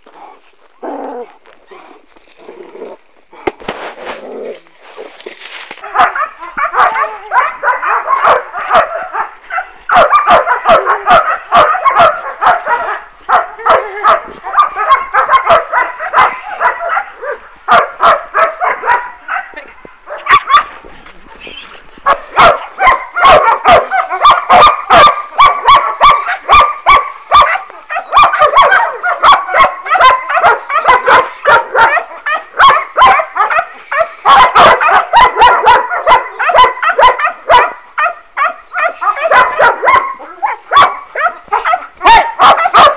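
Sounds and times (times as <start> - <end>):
puppies barking: 5.8 - 20.8, 22.0 - 42.9.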